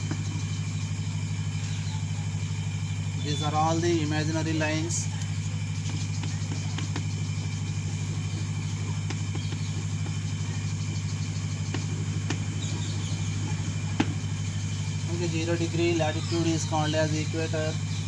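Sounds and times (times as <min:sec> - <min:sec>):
low pulsing mechanical hum: 0:00.0 - 0:18.0.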